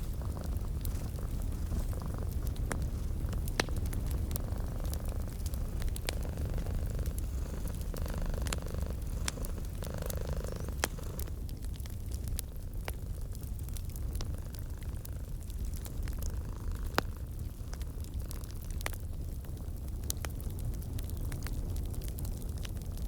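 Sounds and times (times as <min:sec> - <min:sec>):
cat purring: 0:00.0 - 0:18.8
wood fire crackling: 0:00.0 - 0:23.0.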